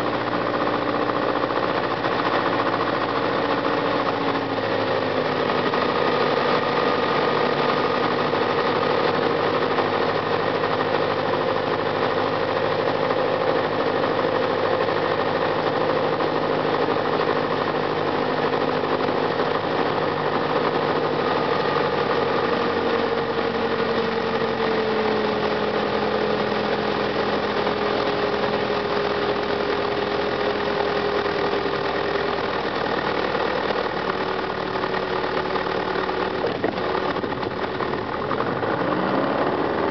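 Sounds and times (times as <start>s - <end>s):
airplane engine from cabin: 0.0s - 39.9s.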